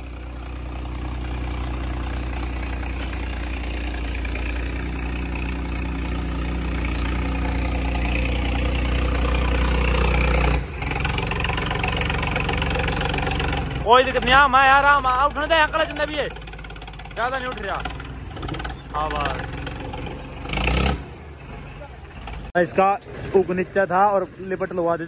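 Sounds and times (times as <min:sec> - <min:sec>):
tractor diesel engines under load: 0:00.0 - 0:25.0.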